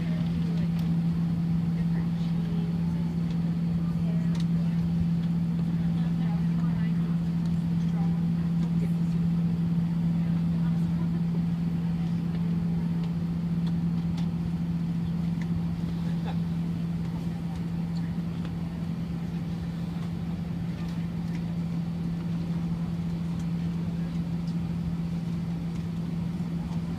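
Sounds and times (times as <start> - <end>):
airliner cabin hum: 0.0 - 26.9.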